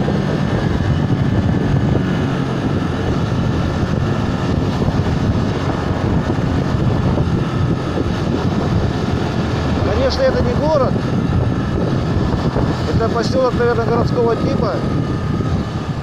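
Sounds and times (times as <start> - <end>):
motorcycle engine running: 0.0 - 16.0
rush of wind and road noise: 0.0 - 16.0.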